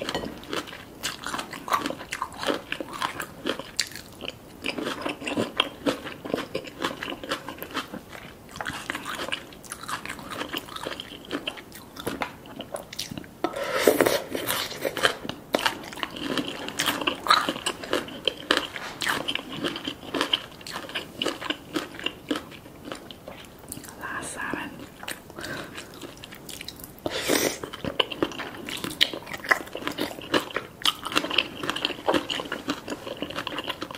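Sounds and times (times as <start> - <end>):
wet crunchy chewing: 0.0 - 13.3, 13.9 - 24.0, 24.8 - 33.9.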